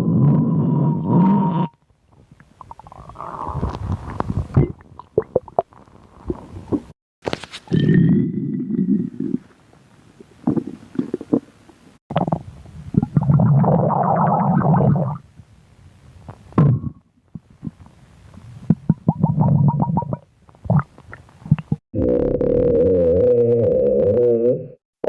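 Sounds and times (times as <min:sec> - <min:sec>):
stomach rumbling and gurgling: 0:00.0 - 0:06.9, 0:07.6 - 0:15.5, 0:16.1 - 0:24.8.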